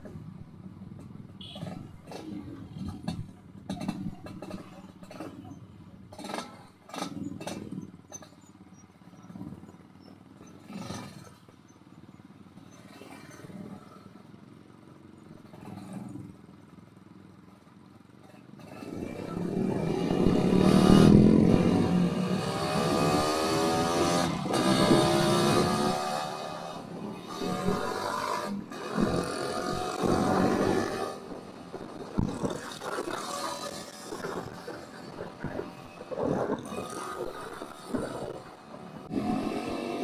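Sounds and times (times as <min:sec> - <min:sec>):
engine knocks and clatter: 0:00.0 - 0:40.0
motorcycle engine: 0:00.0 - 0:40.0.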